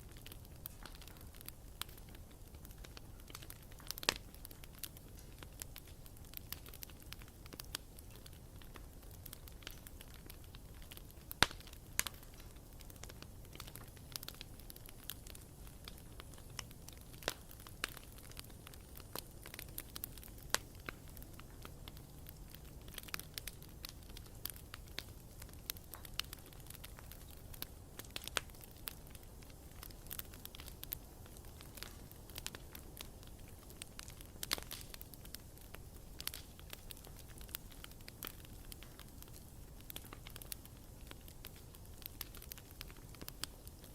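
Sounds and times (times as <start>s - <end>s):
bonfire wood crackling and popping: 0.0s - 43.9s
loud snap of fire: 0.0s - 43.9s.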